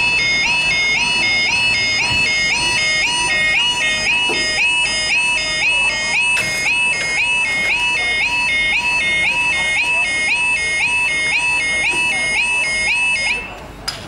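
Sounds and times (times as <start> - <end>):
level crossing two-tone alarm: 0.0 - 13.6.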